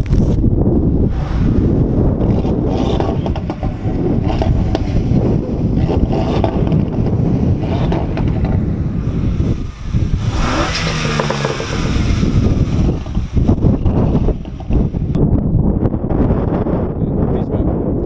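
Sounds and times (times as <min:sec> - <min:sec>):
loud car engine and exhaust: 0:00.0 - 0:17.0.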